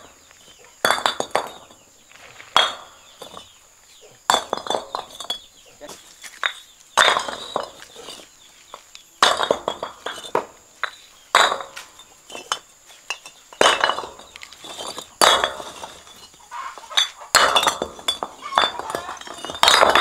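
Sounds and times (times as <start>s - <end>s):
bricks clinking and clattering: 0.0s - 3.6s, 4.2s - 20.0s.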